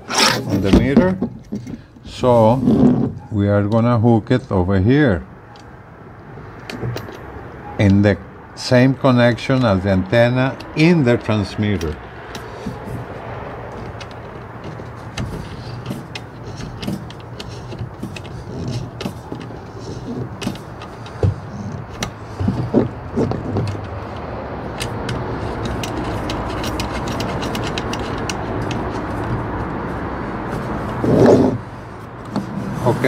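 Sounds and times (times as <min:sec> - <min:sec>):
steady rushing background noise: 0:05.4 - 0:33.0.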